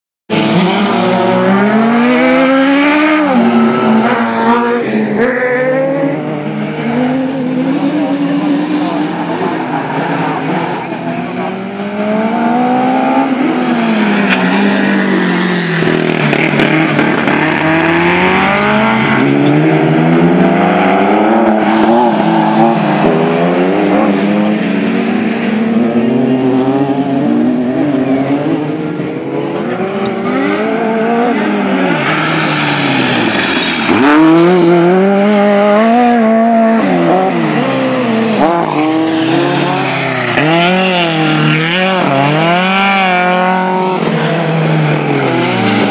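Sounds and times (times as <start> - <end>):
race car engines revving: 0.3 - 45.9.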